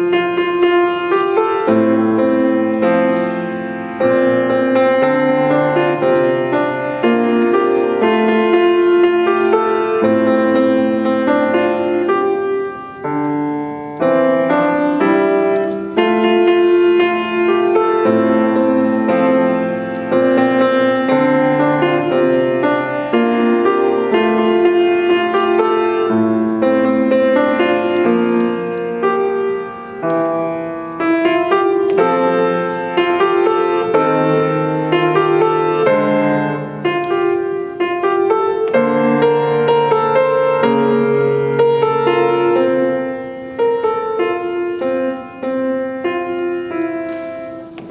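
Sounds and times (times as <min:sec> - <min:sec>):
grand piano playing: 0:00.0 - 0:47.9.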